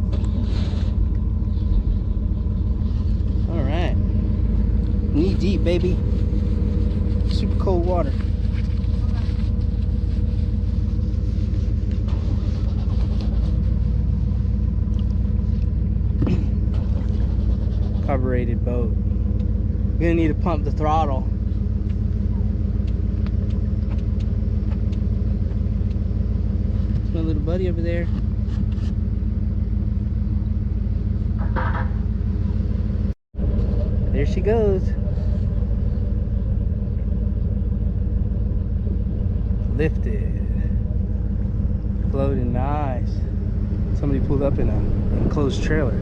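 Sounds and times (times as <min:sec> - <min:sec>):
large engine idling: 0:00.0 - 0:46.0.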